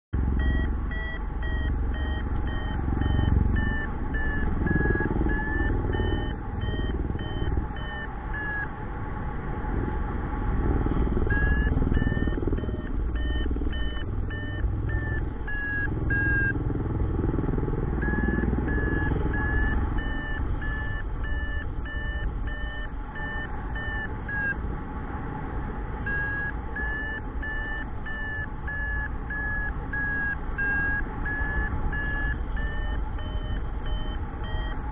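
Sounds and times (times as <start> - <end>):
variometer beeping: 0.2 - 8.8, 11.2 - 16.8, 17.5 - 24.7, 26.0 - 34.9.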